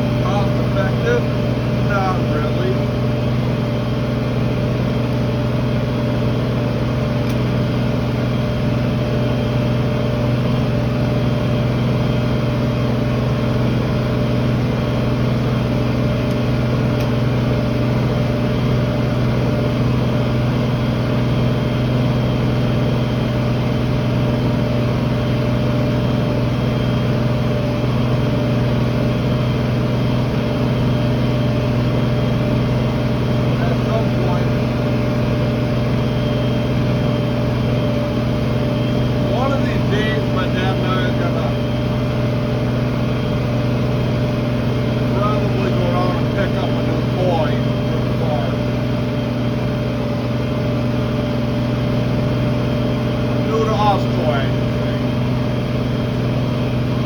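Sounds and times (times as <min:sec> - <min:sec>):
tractor engine droning: 0:00.0 - 0:57.0.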